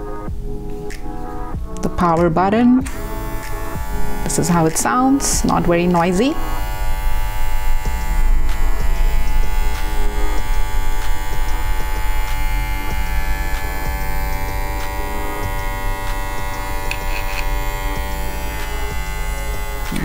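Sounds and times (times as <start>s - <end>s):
pet hair clipper buzzing: 1.7s - 20.0s.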